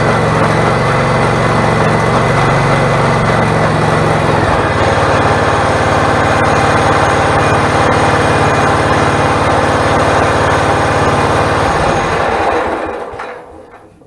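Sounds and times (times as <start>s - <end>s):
small engine running and winding down: 0.0s - 13.4s.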